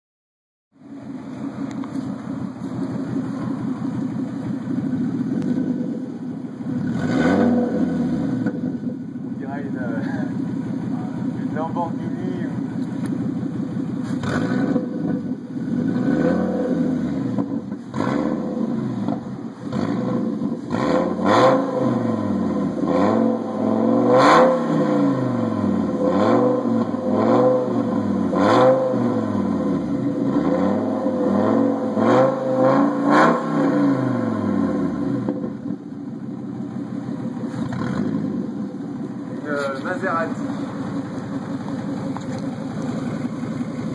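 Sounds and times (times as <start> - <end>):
car engine revving: 0.8 - 43.9.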